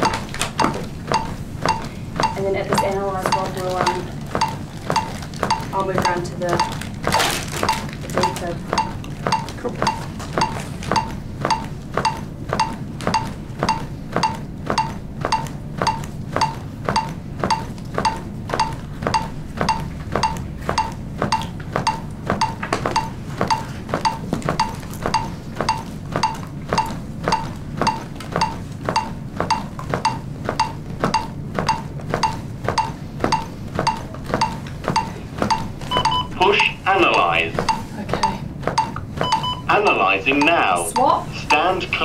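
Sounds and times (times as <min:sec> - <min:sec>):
metronome ticking with beeps: 0:00.0 - 0:42.0.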